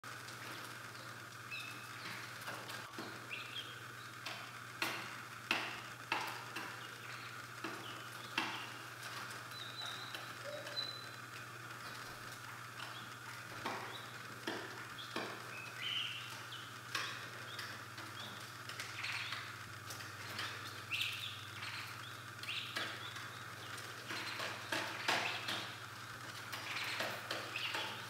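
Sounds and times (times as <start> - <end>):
low steady hum: 0.0 - 28.0
chicks peeping: 0.1 - 28.0.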